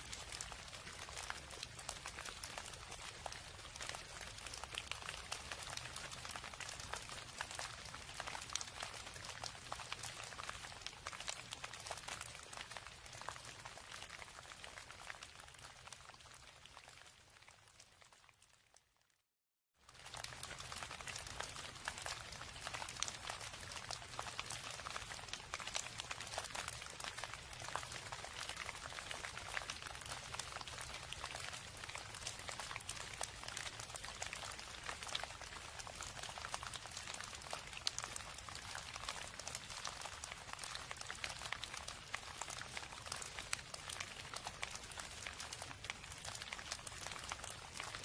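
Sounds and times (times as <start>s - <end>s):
rain drops pattering: 0.0s - 19.2s, 19.8s - 48.0s.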